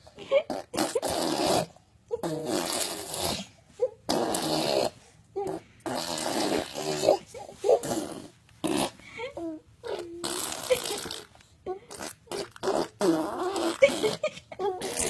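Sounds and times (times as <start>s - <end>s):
baby blowing raspberries: 0.4s - 9.1s, 9.8s - 15.0s.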